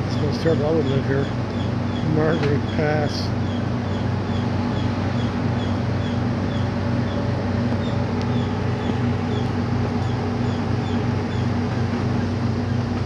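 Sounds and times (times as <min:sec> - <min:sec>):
idling machinery drone: 0:00.0 - 0:13.0.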